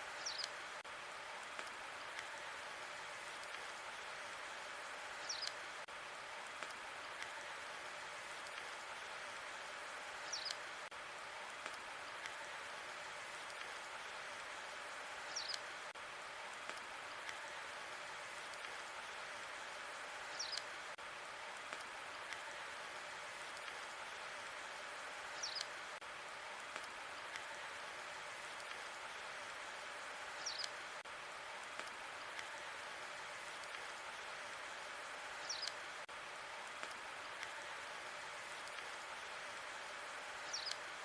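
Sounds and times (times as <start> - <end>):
wood fire hissing and crackling: 0.0 - 41.0.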